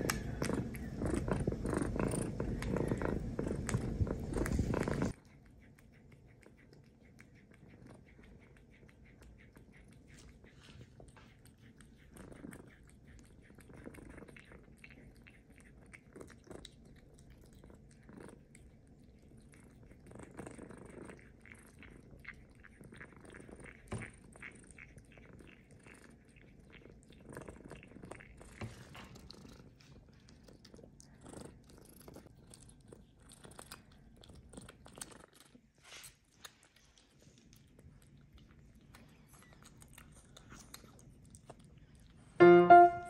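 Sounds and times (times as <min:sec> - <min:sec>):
cat wet chewing and smacking: 0:00.0 - 0:42.4.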